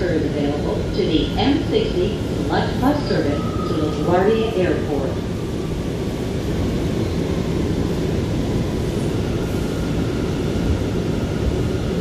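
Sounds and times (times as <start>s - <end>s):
subway car wheels rumbling: 0.0s - 12.0s.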